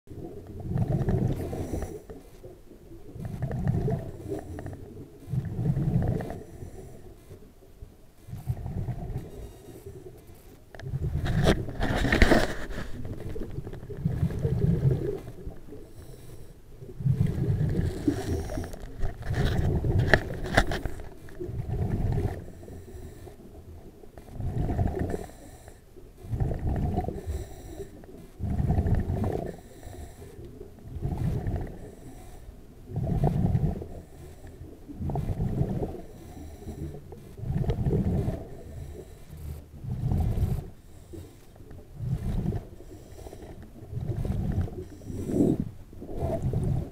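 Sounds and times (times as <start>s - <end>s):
exhaled air bubbling underwater: 0.1s - 46.9s.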